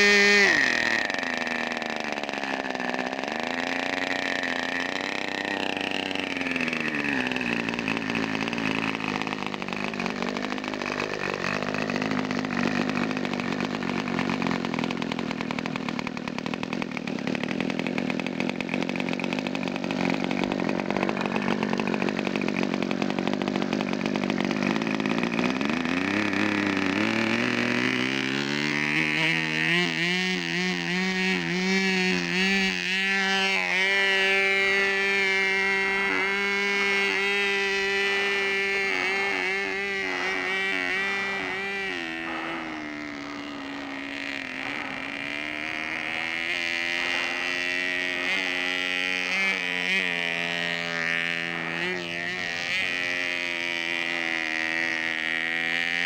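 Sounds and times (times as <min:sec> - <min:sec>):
model airplane engine buzzing: 0:00.0 - 0:56.0.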